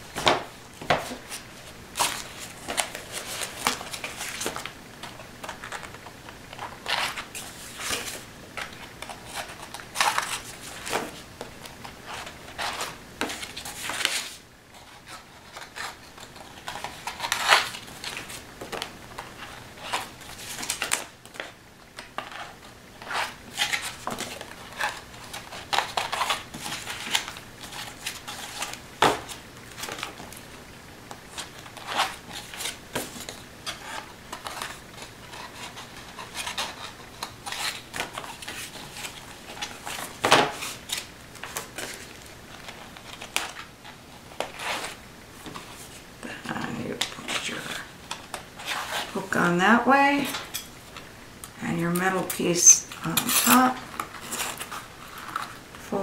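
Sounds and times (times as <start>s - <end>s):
paper pages rustling: 0.1s - 30.5s, 31.1s - 49.3s, 53.0s - 56.0s.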